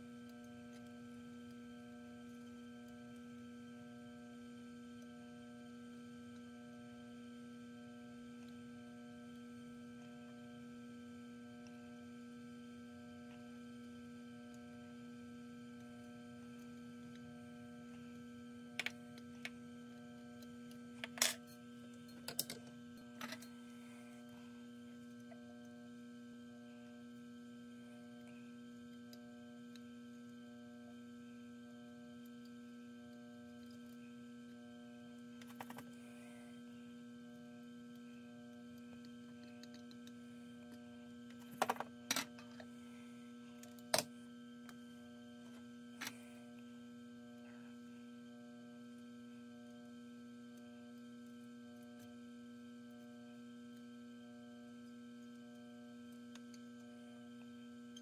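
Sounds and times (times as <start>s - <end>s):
steady electrical hum: 0.0s - 58.0s.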